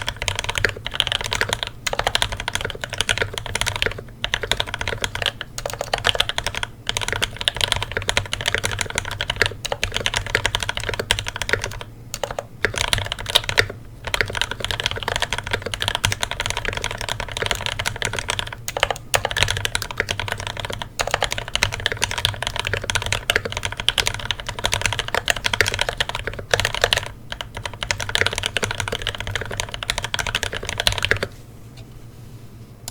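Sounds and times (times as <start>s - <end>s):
fast typing on mechanical keyboard: 0.0s - 31.3s.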